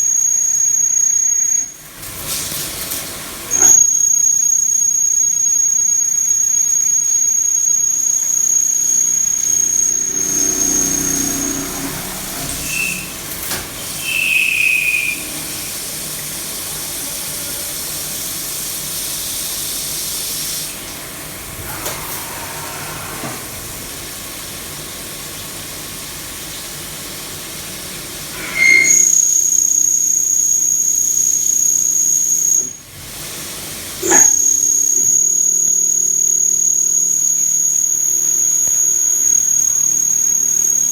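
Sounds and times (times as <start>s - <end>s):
milling machine whine: 0.0s - 19.5s, 20.6s - 40.9s.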